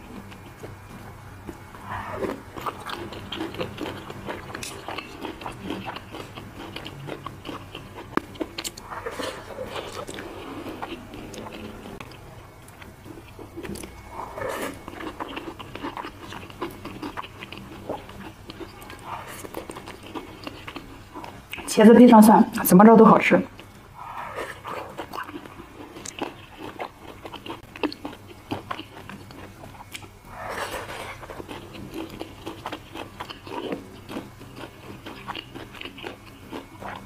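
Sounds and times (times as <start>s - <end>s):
crunching and chewing fried food: 0.0s - 21.8s, 23.5s - 37.0s.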